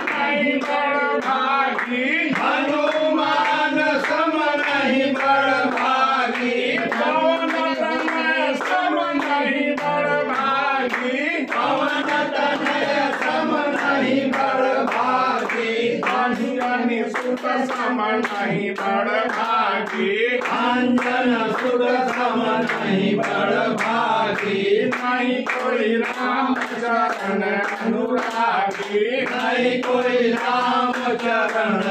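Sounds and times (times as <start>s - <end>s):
group singing devotional song: 0.0s - 31.9s
hands clapping in time: 0.0s - 31.9s.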